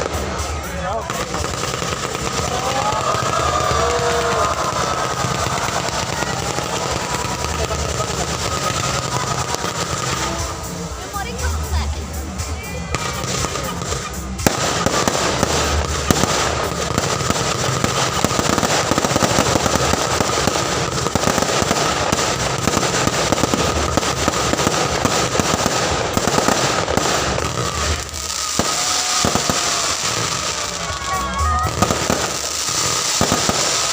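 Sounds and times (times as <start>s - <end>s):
fireworks crackling: 0.0s - 33.9s.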